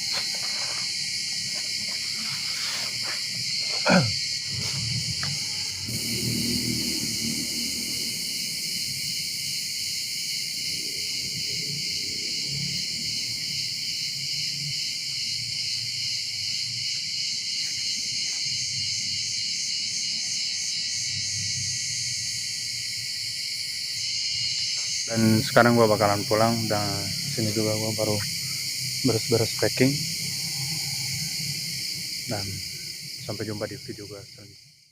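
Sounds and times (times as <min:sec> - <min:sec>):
insects buzzing and chirring: 0:00.0 - 0:34.9.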